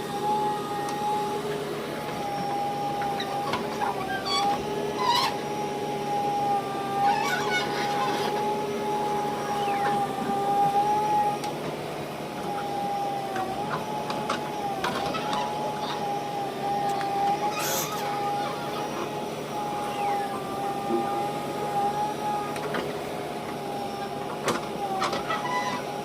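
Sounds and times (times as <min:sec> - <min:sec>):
small motor whining: 0:00.0 - 0:26.0.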